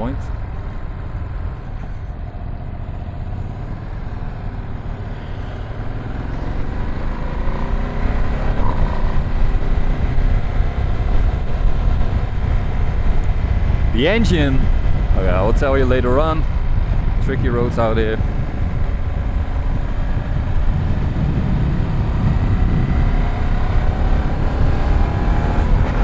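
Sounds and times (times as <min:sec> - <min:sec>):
motorcycle engine accelerating: 0:00.0 - 0:26.0
wind rumble: 0:00.0 - 0:26.0.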